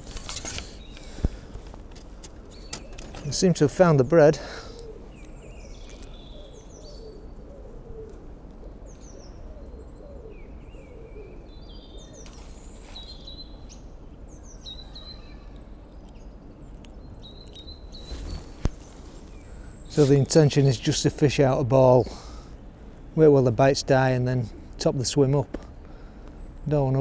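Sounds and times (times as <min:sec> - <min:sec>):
songbirds chirping and whistling: 0:00.0 - 0:27.0.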